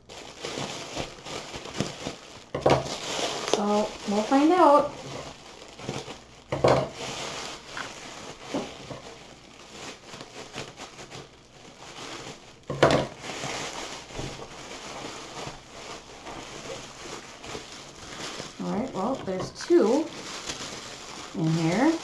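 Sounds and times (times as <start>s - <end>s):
plastic bag rustling and tearing: 0.0s - 22.0s.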